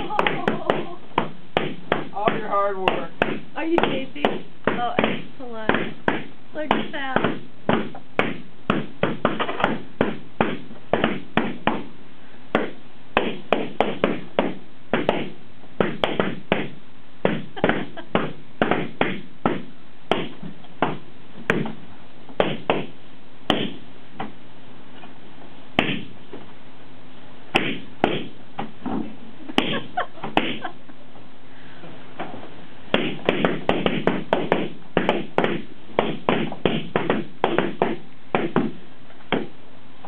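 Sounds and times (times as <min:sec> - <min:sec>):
balloons popping: 0:00.0 - 0:24.3, 0:25.8 - 0:26.2, 0:27.5 - 0:30.7, 0:32.9 - 0:39.6.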